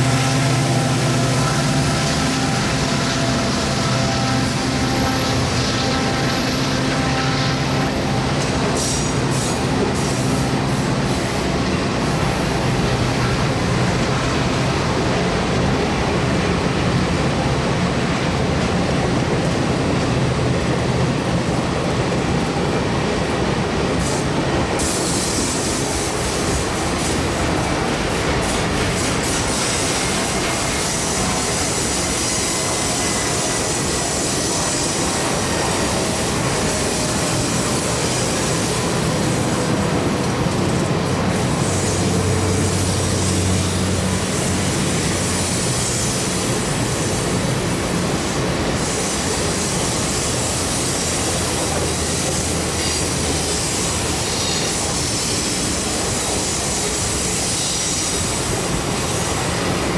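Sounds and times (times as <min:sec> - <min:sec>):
train wheels on rail: 0:00.0 - 0:59.9.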